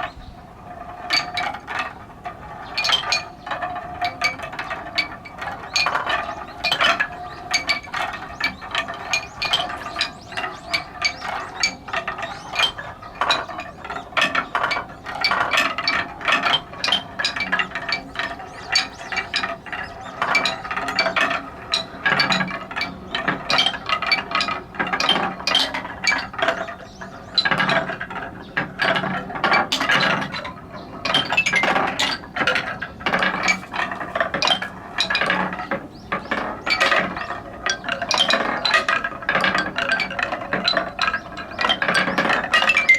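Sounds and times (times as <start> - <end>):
wooden balls clattering down steps: 0.0 - 42.9.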